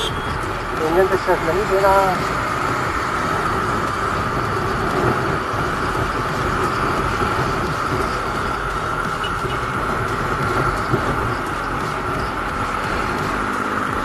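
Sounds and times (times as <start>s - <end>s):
motorcycle engine: 0.0s - 14.0s
wind on microphone: 2.2s - 14.0s.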